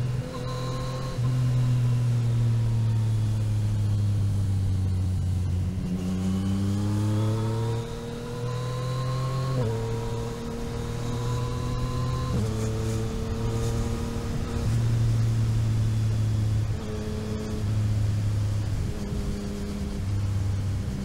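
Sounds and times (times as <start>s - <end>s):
gear change: 0.0s - 21.0s
motorcycle engine running: 0.0s - 21.0s.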